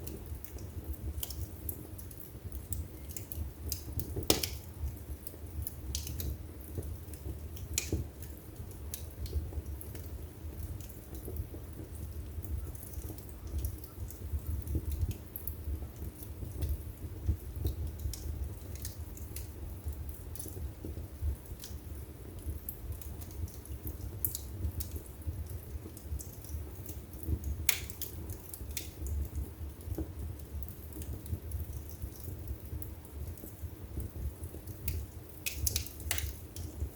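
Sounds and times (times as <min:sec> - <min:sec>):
low rumble of flames: 0:00.0 - 0:36.9
wood fire crackling: 0:00.0 - 0:36.9.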